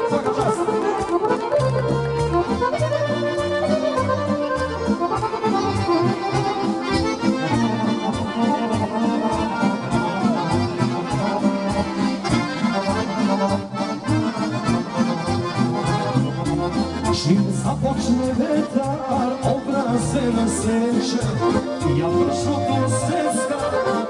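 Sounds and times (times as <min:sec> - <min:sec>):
accordion folk tune: 0:00.0 - 0:24.0.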